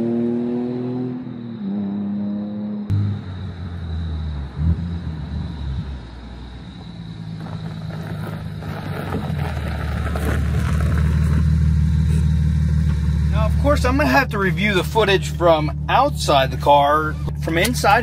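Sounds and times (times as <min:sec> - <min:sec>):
car exhaust passing by: 0:00.0 - 0:18.0.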